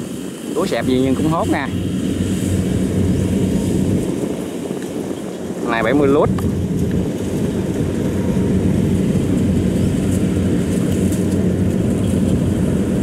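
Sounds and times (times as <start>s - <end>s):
combine harvester diesel drone: 0.0s - 13.0s.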